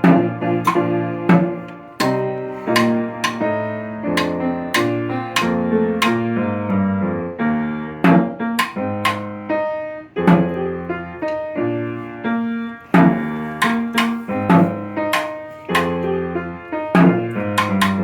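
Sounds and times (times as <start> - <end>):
piano chords and melody: 0.0 - 18.0.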